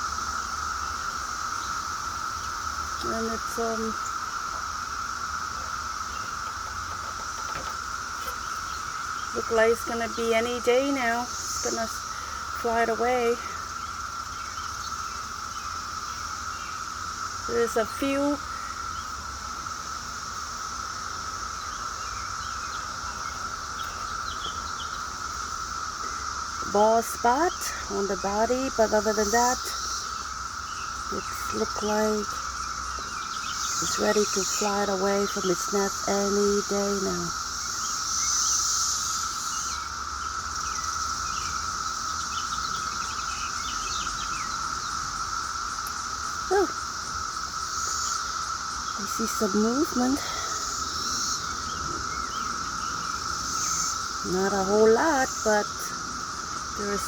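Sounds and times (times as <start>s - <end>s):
birds chirping: 0.0s - 57.0s
insects droning: 0.0s - 57.0s.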